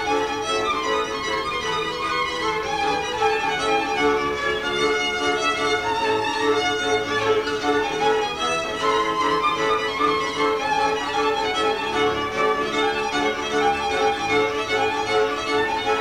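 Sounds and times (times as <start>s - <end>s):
folk fiddle music: 0.0s - 16.0s.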